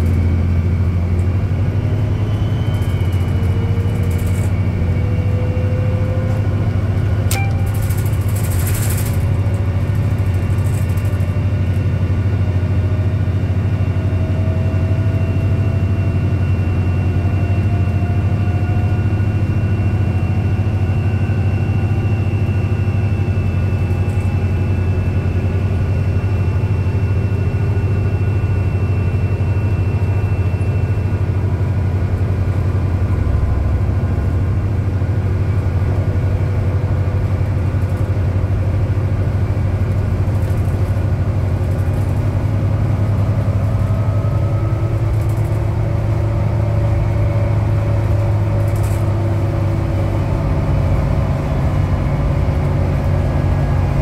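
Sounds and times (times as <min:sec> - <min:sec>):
bus engine low rumble: 0:00.0 - 0:54.0.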